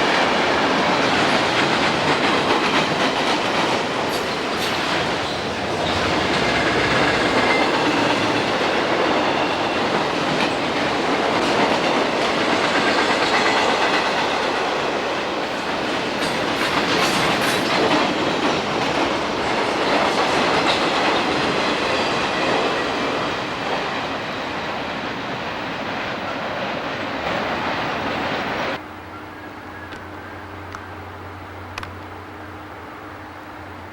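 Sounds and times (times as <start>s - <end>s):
train wheels clicking on rails: 0.0s - 28.8s.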